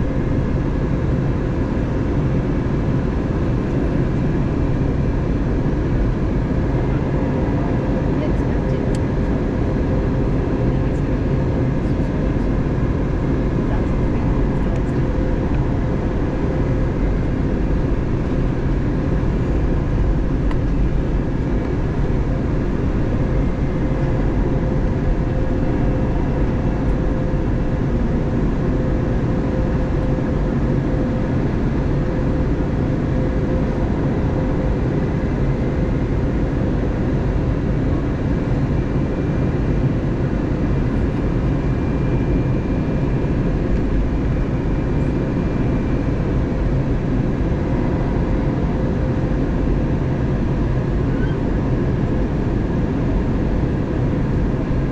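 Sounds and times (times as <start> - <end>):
airflow and engine noise: 0.0 - 54.9.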